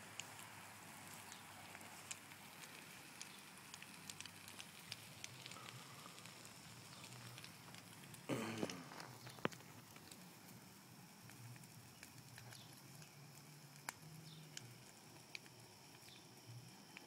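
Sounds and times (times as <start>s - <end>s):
fire crackling and popping: 0.0s - 17.0s
low hiss of flames: 0.0s - 17.0s.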